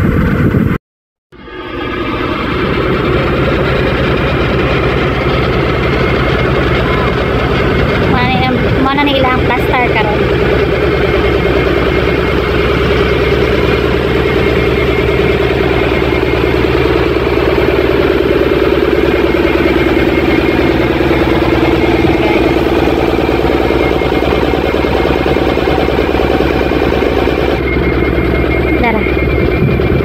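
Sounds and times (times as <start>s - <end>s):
large engine droning: 0.0s - 30.0s.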